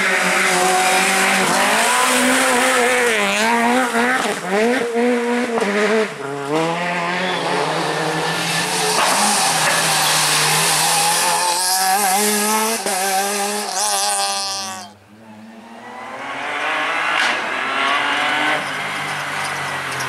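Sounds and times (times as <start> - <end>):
rally car engine revving hard: 0.0 - 15.0, 15.8 - 20.0.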